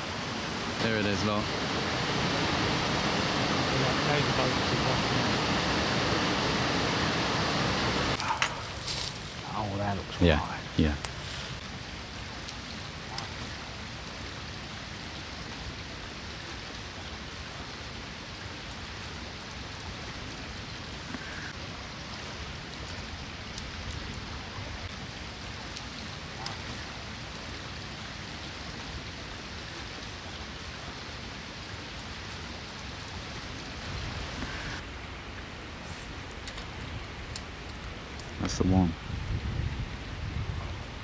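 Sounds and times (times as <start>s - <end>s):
brook water rushing: 0.0s - 41.0s.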